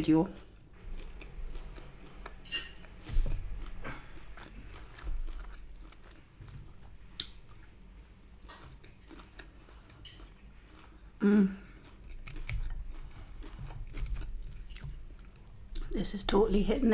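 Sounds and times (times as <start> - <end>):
person chewing food: 0.4 - 16.0.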